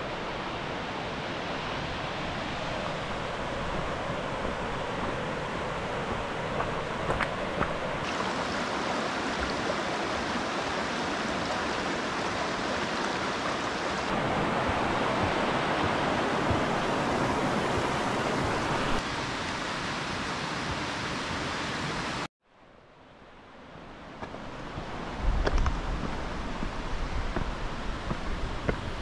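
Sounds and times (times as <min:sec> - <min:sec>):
stream rushing over boulders: 0:00.0 - 0:22.3, 0:23.8 - 0:29.0.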